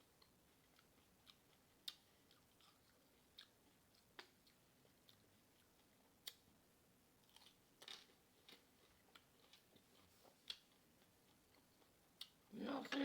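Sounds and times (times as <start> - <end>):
person chewing crunchy chips: 0.2 - 6.4, 7.2 - 11.9.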